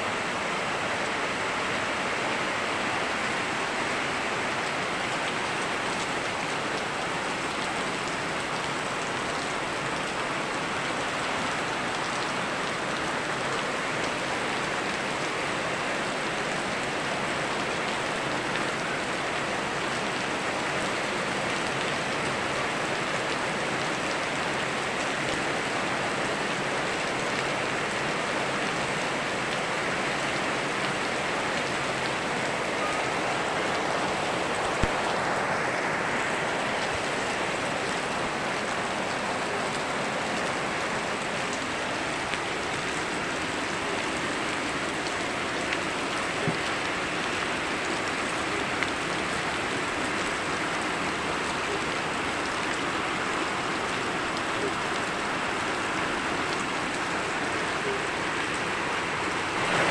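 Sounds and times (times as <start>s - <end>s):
river running: 0.0s - 59.9s
steady rain falling: 0.0s - 59.9s.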